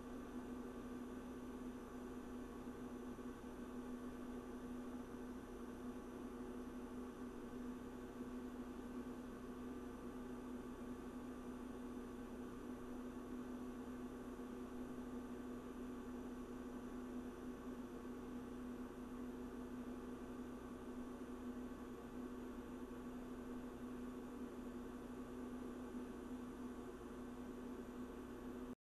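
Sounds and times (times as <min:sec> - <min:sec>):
electrical hum: 0:00.0 - 0:28.8.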